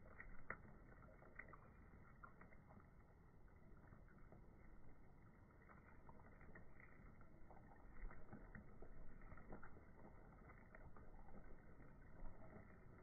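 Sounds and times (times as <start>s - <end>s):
soft crackles: 0.0s - 13.0s.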